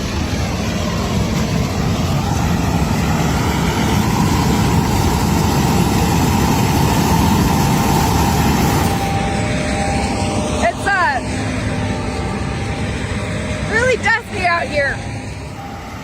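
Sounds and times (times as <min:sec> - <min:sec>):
faint steady whine: 0:00.0 - 0:16.0
tractor engine running: 0:00.0 - 0:16.0.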